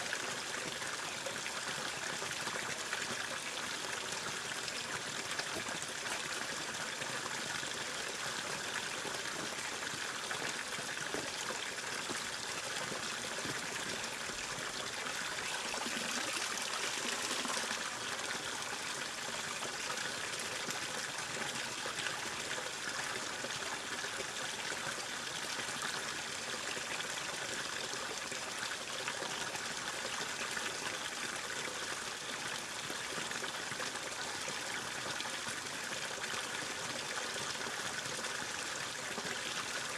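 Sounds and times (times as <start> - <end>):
running water rushing and trickling: 0.0 - 39.9.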